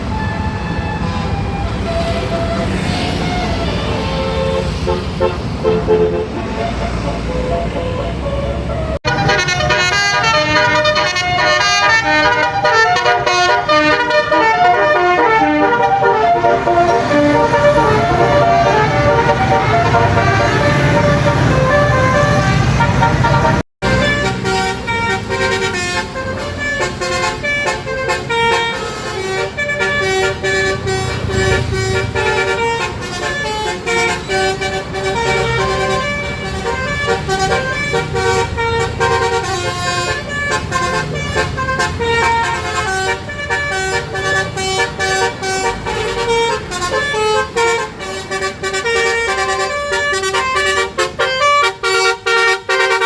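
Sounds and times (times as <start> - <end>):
musical air horn melodies: 0.0 - 8.4, 9.0 - 53.0
bus engines rumbling: 0.0 - 53.0.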